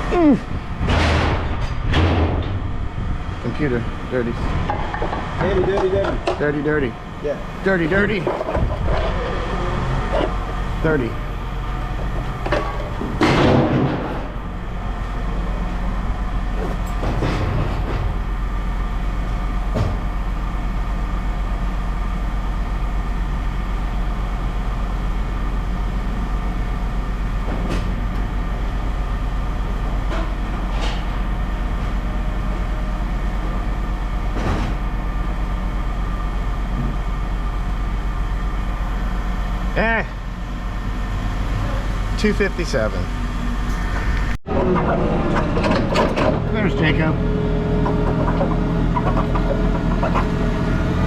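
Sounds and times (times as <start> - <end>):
low machine hum: 0.0 - 51.0.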